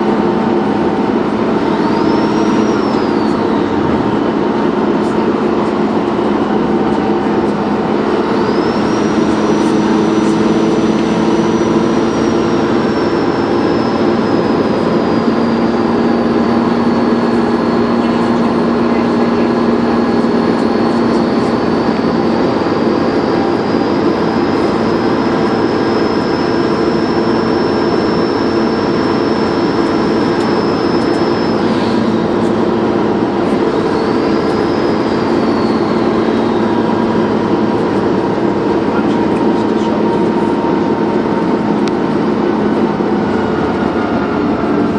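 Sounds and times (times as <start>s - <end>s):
diesel bus engine running: 0.0s - 44.9s
high turbocharger whistle: 0.0s - 44.9s.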